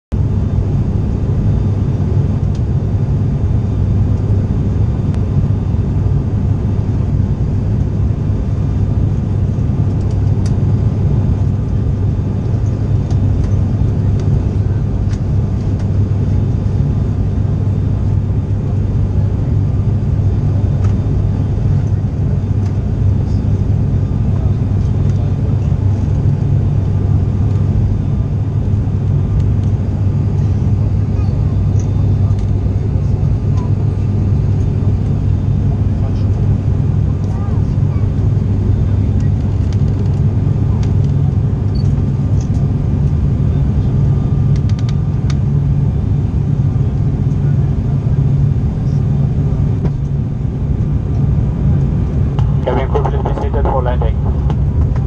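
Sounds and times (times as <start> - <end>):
turboprop engines droning: 0.1 - 55.0.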